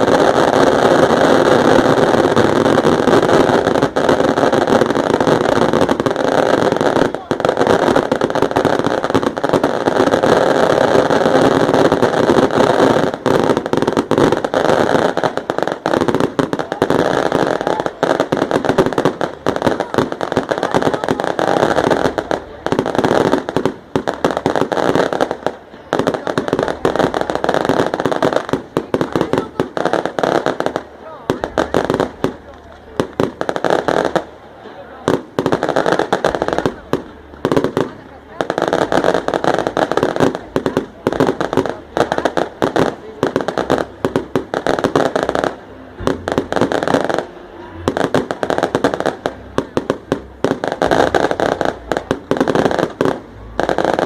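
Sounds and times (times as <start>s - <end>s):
firecracker bangs: 0.0s - 54.0s.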